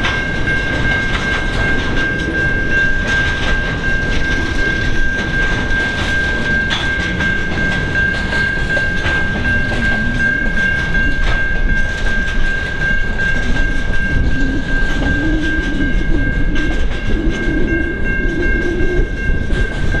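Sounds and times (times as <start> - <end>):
train rumble: 0.0 - 20.0
train wheels clicking over rails: 0.0 - 20.0.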